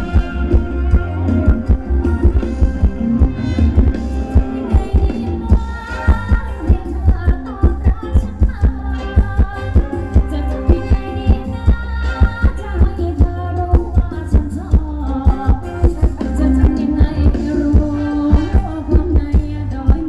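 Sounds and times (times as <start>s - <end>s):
live band playing dance music: 0.0s - 20.0s
steady drum beat: 0.0s - 20.0s.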